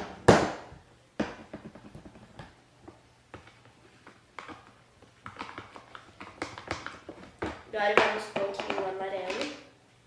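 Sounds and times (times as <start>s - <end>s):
plastic bottles clicking and tapping: 1.2s - 9.6s.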